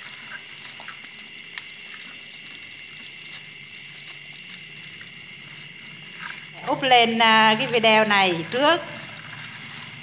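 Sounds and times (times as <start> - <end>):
crabs clicking and scratching: 0.0 - 10.0.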